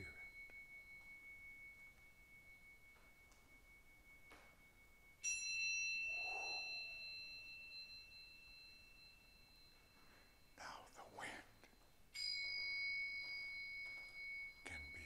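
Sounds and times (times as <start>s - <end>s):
metal chime ringing: 0.0s - 15.0s.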